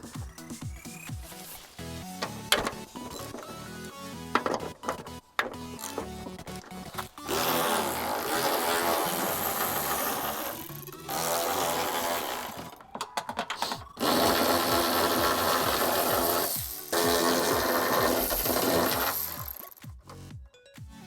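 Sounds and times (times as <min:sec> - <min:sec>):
background music: 0:00.0 - 0:21.0
power tool running: 0:02.2 - 0:13.0, 0:13.6 - 0:19.8.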